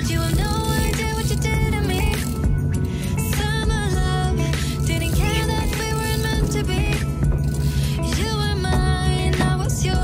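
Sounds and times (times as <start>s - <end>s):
low bass line: 0.0s - 10.0s.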